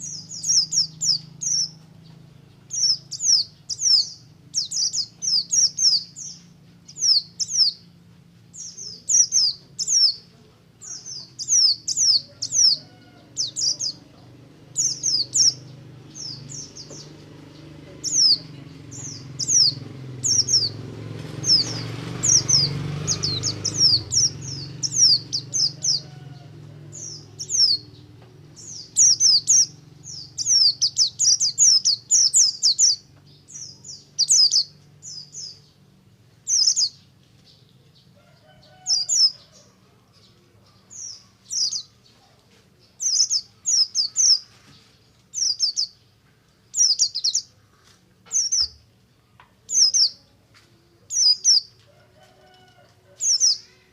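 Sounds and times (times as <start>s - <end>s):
bird singing rapid chirps: 0.0s - 38.1s, 38.7s - 42.2s, 42.8s - 44.5s, 45.3s - 46.1s, 46.7s - 47.6s, 48.3s - 48.9s, 49.7s - 50.3s, 51.1s - 51.8s, 53.2s - 53.7s.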